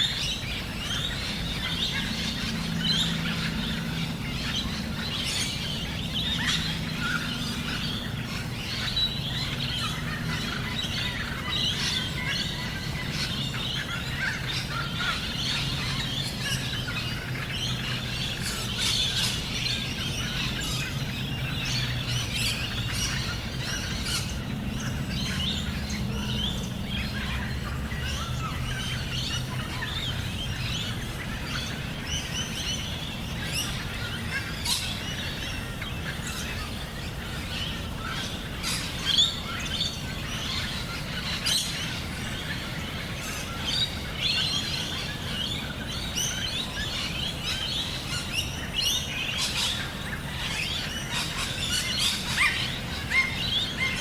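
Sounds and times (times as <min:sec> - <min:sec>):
birds chirping in chorus: 0:00.0 - 0:54.0.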